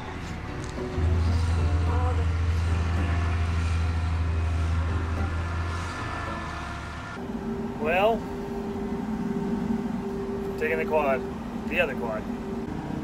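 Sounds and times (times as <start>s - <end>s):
tractor diesel engines rumbling: 0.0s - 13.0s.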